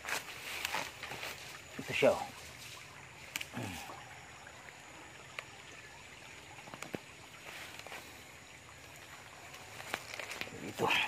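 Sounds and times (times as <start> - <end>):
small river flowing: 0.0 - 11.0.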